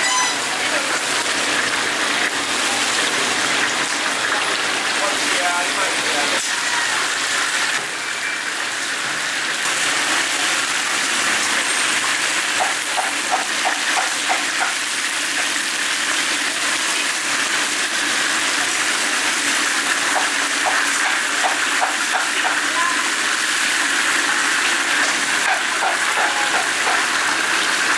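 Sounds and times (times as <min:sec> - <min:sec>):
oil sizzling in deep fryer: 0:00.0 - 0:27.9.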